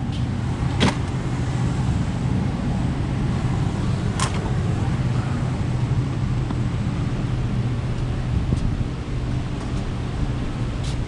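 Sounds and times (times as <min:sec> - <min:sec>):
motor vehicle engine rumbling: 0:00.0 - 0:11.0.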